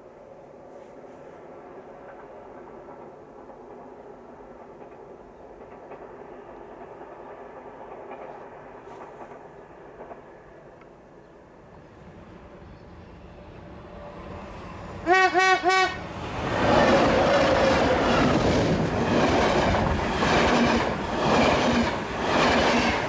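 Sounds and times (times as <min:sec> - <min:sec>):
distant train rumble: 0:00.0 - 0:23.0.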